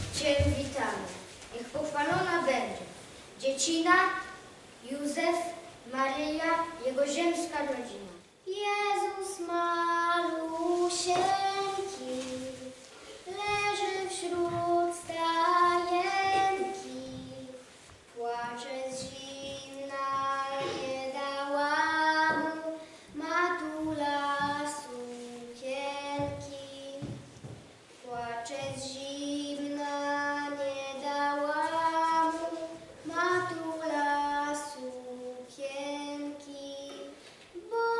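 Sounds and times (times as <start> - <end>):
girl singing: 0.0 - 27.4, 28.0 - 37.9.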